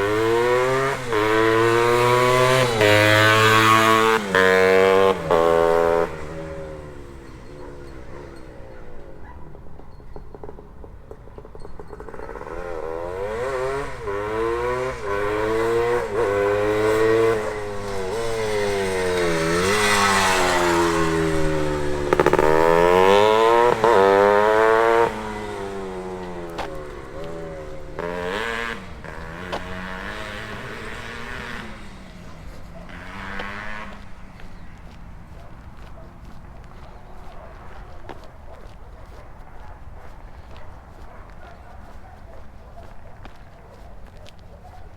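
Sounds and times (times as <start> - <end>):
two-stroke motorcycle revving: 0.0 - 44.9.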